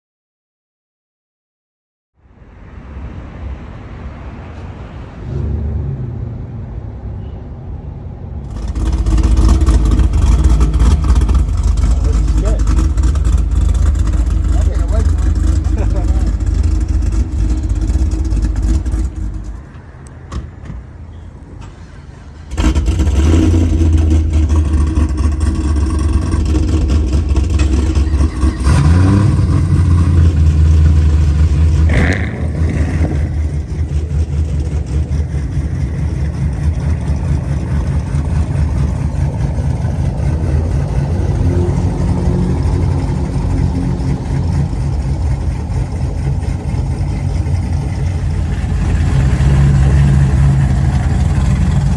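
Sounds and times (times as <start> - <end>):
car engine and exhaust revving: 2.7 - 7.3, 7.9 - 51.9.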